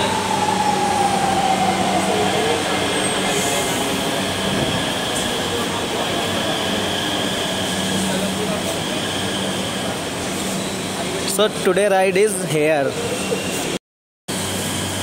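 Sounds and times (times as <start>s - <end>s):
train rolling noise: 0.0s - 13.8s.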